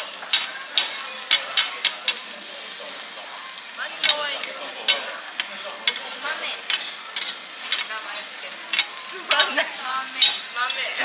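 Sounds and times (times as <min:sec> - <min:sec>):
batter sizzling on griddle: 0:00.0 - 0:11.0
metal spatulas clacking and scraping: 0:00.2 - 0:02.3, 0:04.0 - 0:11.0.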